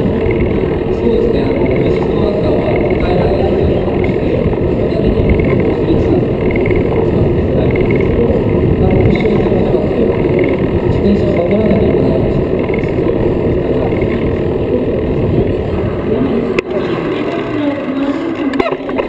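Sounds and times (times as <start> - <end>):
tyres rolling on track: 0.0 - 19.0
wind rushing over microphone: 0.0 - 19.0.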